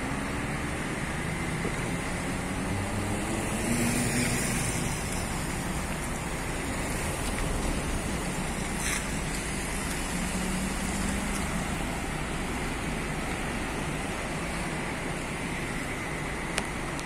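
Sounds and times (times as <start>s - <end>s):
street traffic rumble: 0.0s - 17.0s
vehicle engine hum: 0.0s - 17.0s.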